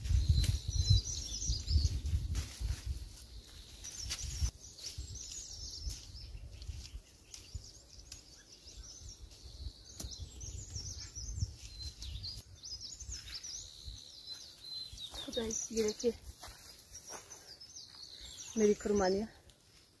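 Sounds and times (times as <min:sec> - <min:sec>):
songbirds chirping and twittering: 0:00.0 - 0:20.0.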